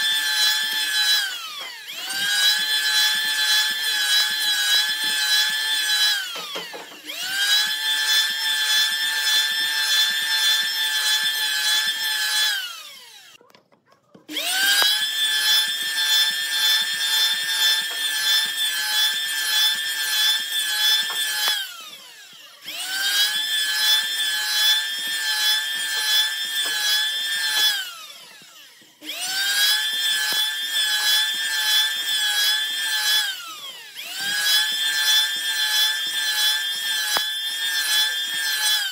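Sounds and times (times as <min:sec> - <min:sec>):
electric planer cutting wood: 0:00.0 - 0:13.4, 0:14.3 - 0:38.9.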